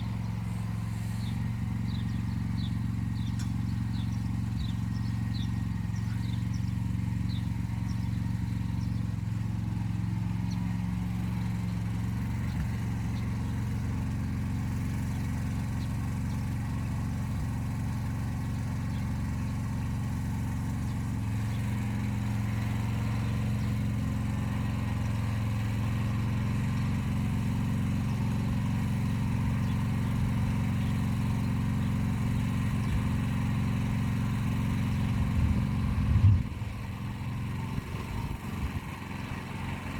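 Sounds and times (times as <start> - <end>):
walk-behind tractor engine running: 0.0 - 39.9.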